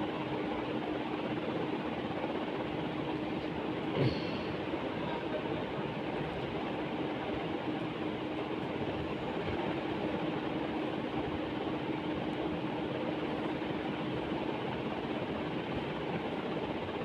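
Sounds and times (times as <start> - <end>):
constant low hum: 0.0 - 17.0.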